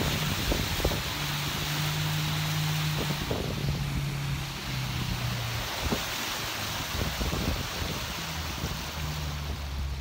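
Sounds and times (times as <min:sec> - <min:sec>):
boat motor humming: 0:00.0 - 0:10.0
wind and water rushing: 0:00.0 - 0:10.0.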